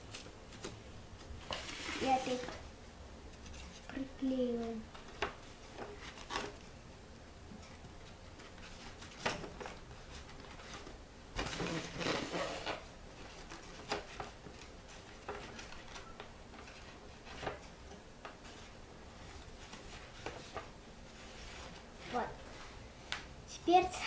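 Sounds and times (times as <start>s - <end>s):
paper rustling: 0.0s - 2.6s, 3.3s - 6.7s, 7.6s - 22.8s.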